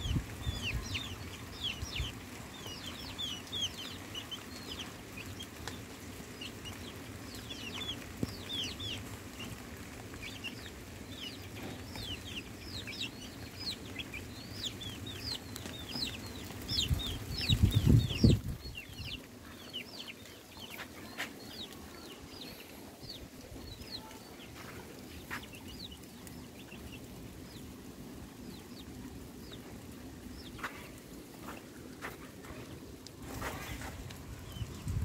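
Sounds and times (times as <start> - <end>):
birds peeping: 0.0 - 35.0.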